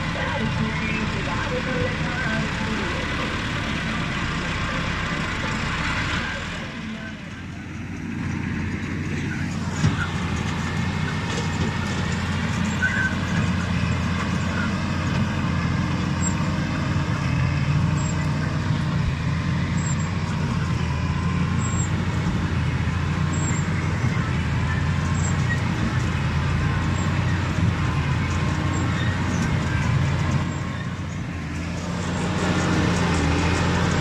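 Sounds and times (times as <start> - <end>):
baler machine drone: 0.0 - 34.0
tractor diesel engine running: 0.0 - 34.0.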